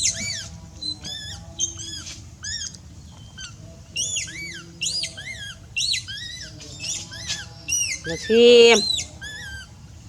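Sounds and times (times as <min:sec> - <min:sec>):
monkey squeaky calls: 0:00.0 - 0:02.7, 0:03.3 - 0:09.7.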